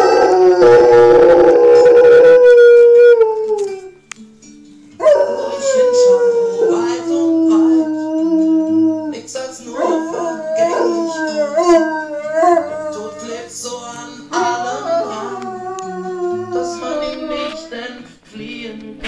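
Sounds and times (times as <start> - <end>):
dog howling: 0.0 - 3.9, 5.0 - 13.4, 14.3 - 17.7
instrumental song backing: 0.0 - 19.0.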